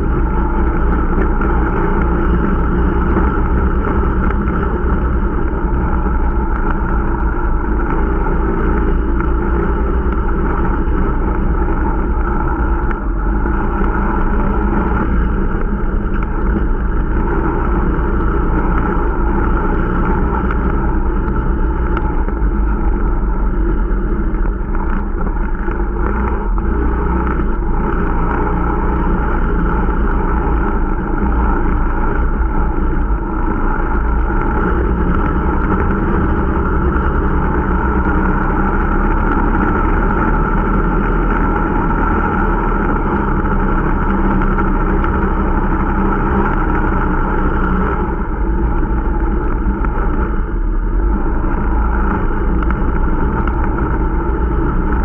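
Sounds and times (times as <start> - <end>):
snowmobile engine running: 0.0 - 55.0
snowmobile track noise: 0.0 - 55.0.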